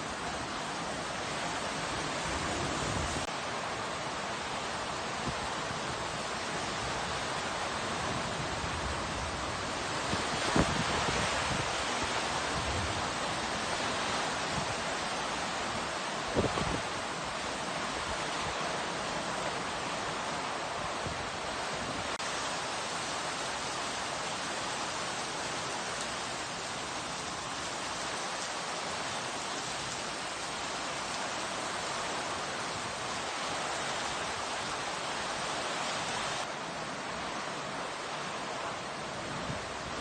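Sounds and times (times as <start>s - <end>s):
heavy rain and wind: 0.0s - 40.0s.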